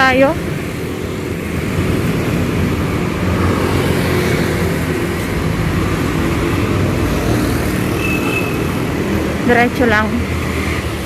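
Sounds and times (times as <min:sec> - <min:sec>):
passing cars rumbling: 0:00.0 - 0:11.0.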